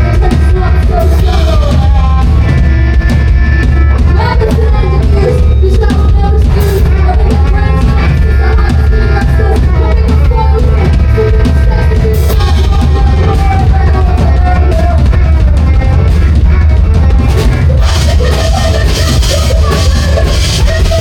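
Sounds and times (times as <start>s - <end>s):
distorted rock band playing: 0.0s - 21.0s.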